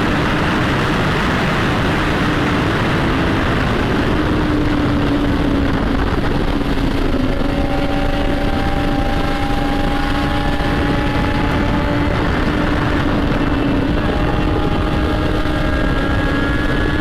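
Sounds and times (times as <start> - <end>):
motorcycle exhaust cruising: 0.0 - 17.0
wind rush over microphone: 0.0 - 17.0.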